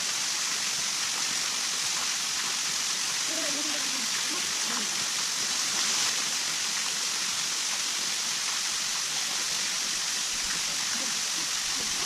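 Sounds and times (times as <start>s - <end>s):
steady hiss of water: 0.0s - 12.0s.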